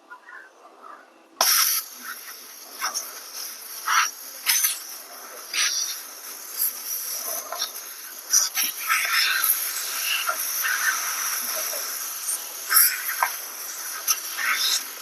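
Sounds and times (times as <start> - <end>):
air hissing from tire valve: 1.4 - 15.0.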